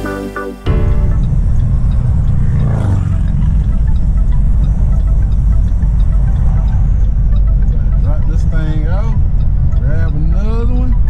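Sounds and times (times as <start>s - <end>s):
diesel engine droning: 0.0s - 11.0s
road noise: 0.0s - 11.0s.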